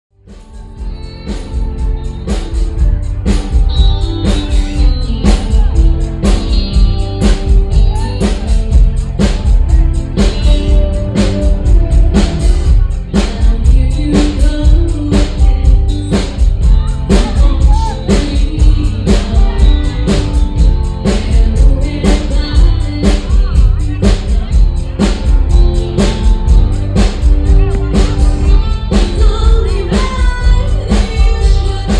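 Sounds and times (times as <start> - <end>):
band playing a song: 0.2 - 31.9
drum kit beat: 0.2 - 31.9.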